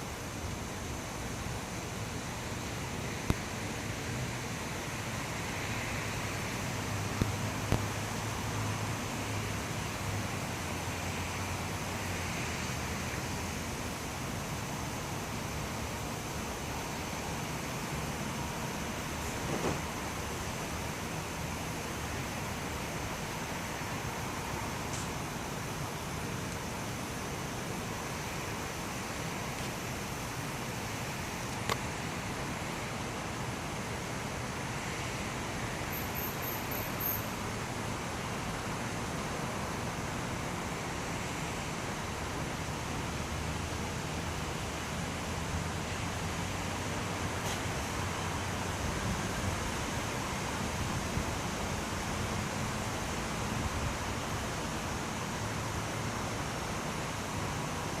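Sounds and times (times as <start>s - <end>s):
outdoor background hiss: 0.0s - 58.0s.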